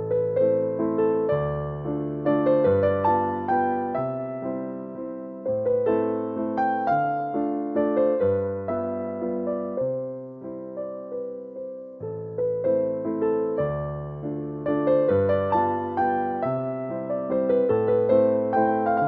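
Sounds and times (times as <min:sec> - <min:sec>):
slow piano melody: 0:00.0 - 0:19.0.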